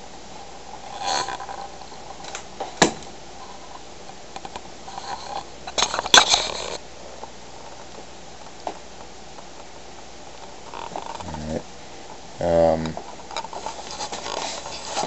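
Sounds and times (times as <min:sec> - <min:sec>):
rustling of handled things: 0:00.3 - 0:08.8, 0:10.4 - 0:15.0.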